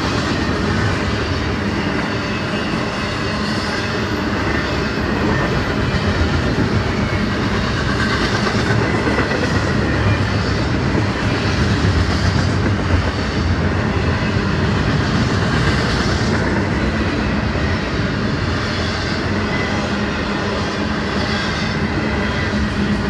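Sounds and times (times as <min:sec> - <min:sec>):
freight train wheels rumbling: 0:00.0 - 0:23.0.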